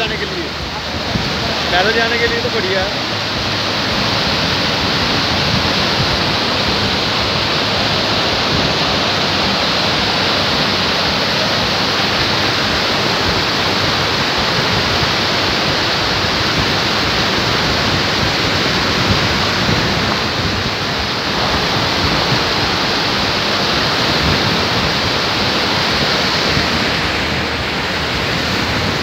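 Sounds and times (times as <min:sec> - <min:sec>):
fast-flowing water rushing: 0:00.0 - 0:29.0.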